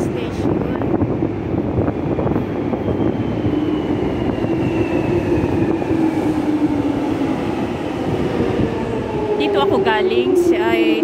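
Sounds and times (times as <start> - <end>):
underground train rumble and hum: 0.0 - 11.0.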